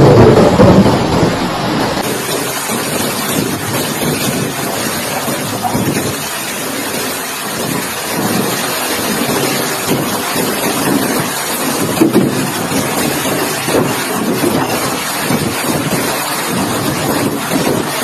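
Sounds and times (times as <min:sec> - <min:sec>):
hail and rain pouring: 0:00.0 - 0:18.0
wind gusting on microphone: 0:00.0 - 0:18.0.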